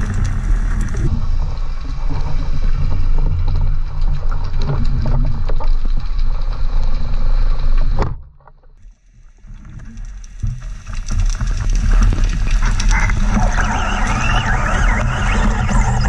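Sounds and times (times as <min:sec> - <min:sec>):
underwater rumble with crackling: 0:00.0 - 0:16.0.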